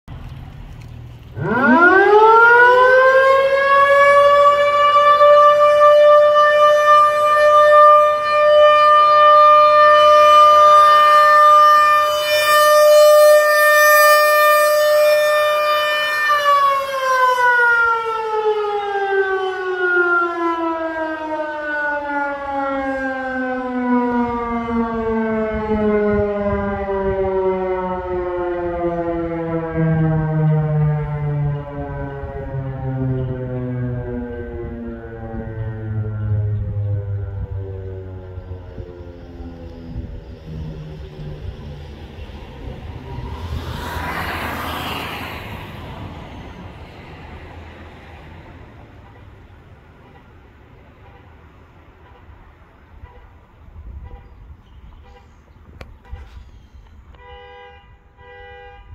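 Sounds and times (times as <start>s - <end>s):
rotating tornado siren wailing: 1.4s - 49.5s.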